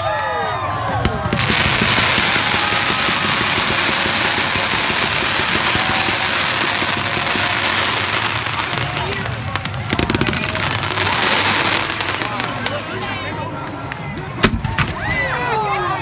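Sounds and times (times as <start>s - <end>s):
crackling fireworks: 0.0s - 15.8s.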